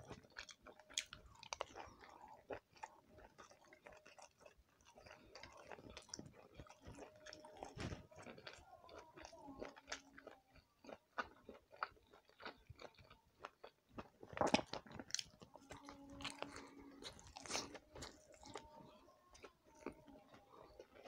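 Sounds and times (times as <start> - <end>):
wet chewing and lip smacks: 0.0 - 21.0.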